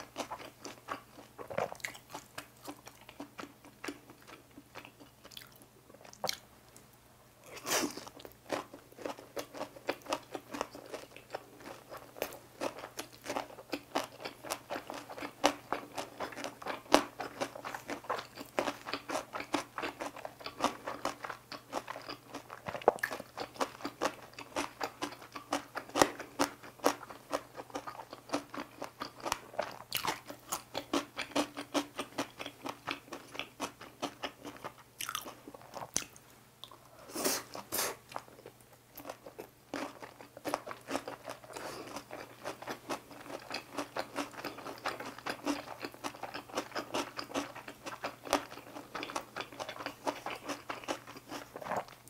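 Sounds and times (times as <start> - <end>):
crunchy chewing: 0.0 - 52.0.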